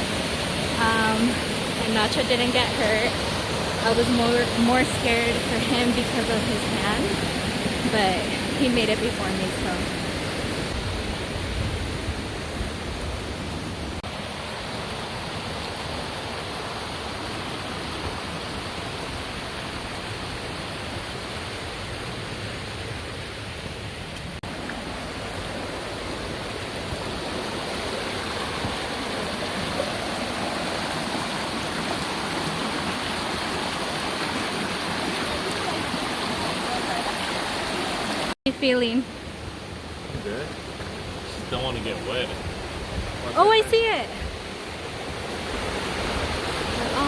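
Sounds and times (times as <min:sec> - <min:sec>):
rushing creek water: 0:00.0 - 0:47.0.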